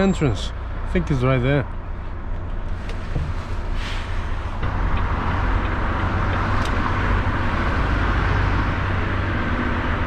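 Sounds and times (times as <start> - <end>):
road noise: 0.0 - 10.0
lorry diesel engine running: 1.8 - 10.0.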